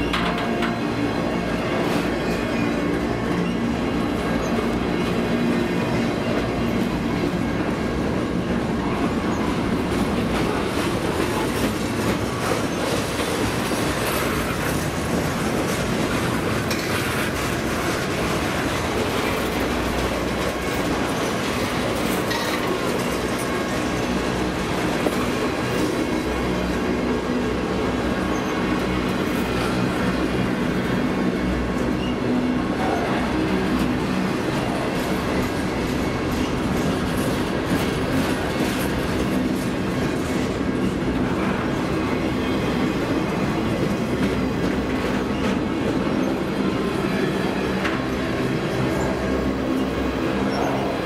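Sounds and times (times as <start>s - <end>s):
train wheels clattering on rails: 0.0s - 51.0s.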